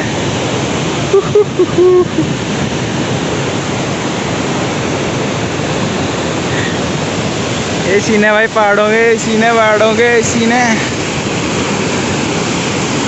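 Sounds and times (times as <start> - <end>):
river rushing through rapids: 0.0 - 13.0.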